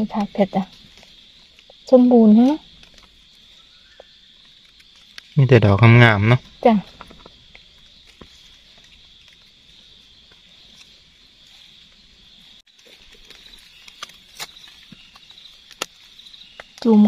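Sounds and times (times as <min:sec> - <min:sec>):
twigs snapping: 0:00.0 - 0:05.5, 0:06.4 - 0:12.0, 0:12.7 - 0:17.0
insects chirring: 0:00.0 - 0:17.0
rustling of dry leaves: 0:00.0 - 0:17.0.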